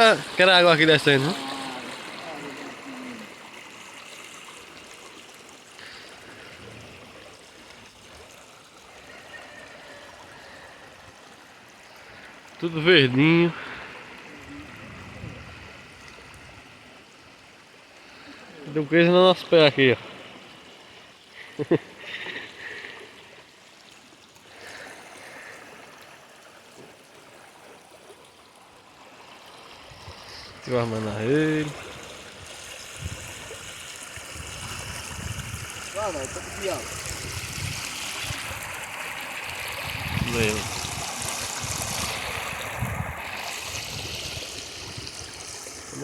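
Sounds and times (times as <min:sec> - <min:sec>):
water rushing down a creek: 0:00.0 - 0:46.0.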